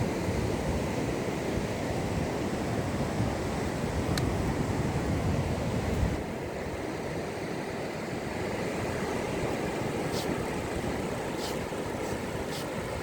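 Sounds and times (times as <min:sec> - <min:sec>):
wind rumbling on microphone: 0:00.0 - 0:07.2, 0:08.1 - 0:13.0
surf washing: 0:00.0 - 0:13.0.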